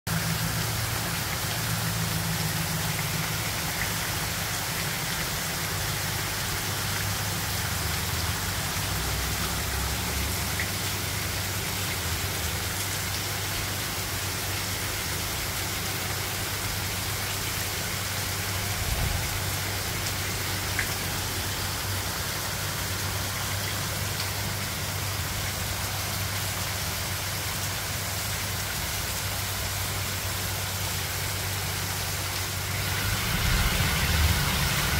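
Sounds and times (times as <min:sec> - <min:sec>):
heavy rain falling: 0:00.1 - 0:34.9.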